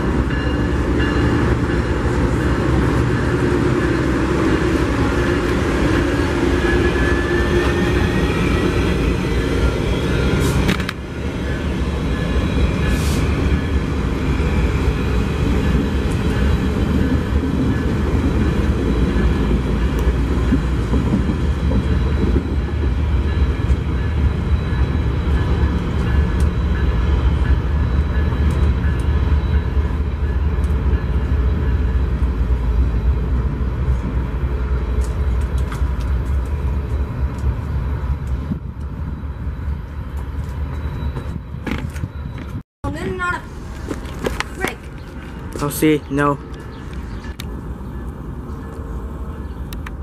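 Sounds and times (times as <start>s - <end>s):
train rumbling past on rails: 0.0s - 50.0s.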